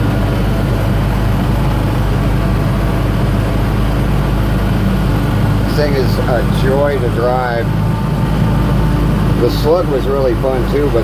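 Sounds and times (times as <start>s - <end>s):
truck engine and gears running: 0.0s - 11.0s.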